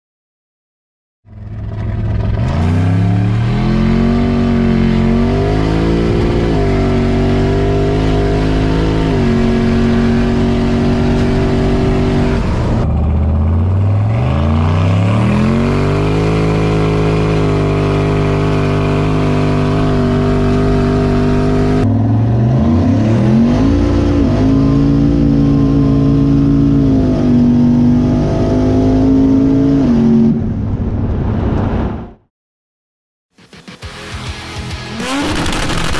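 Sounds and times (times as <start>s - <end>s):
engine revving: 1.3s - 30.6s, 34.6s - 35.9s.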